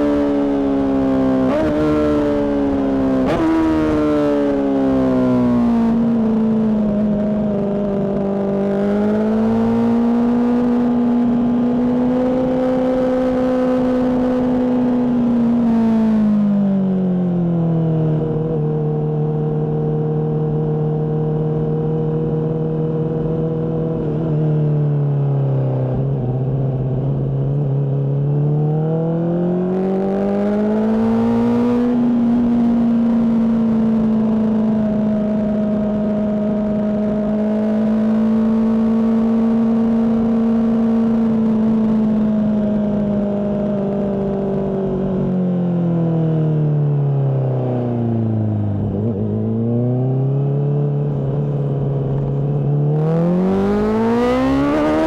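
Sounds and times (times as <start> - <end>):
motorcycle engine revving: 0.0 - 17.1, 18.0 - 55.0.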